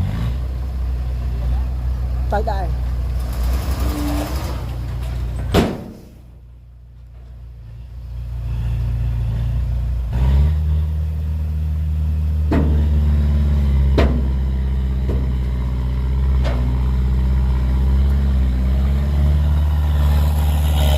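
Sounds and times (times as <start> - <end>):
heavy diesel engine droning: 0.0 - 20.9.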